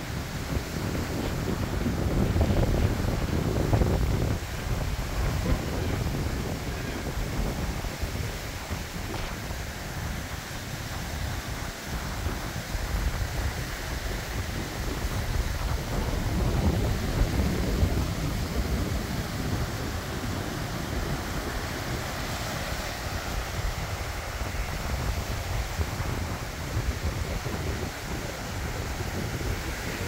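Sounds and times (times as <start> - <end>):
sea surf breaking: 0.0 - 30.0
wind buffeting microphone: 0.0 - 30.0.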